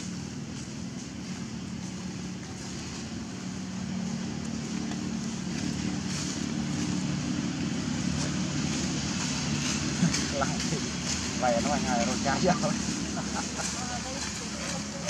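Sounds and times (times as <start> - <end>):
motor engine droning: 0.0 - 15.0.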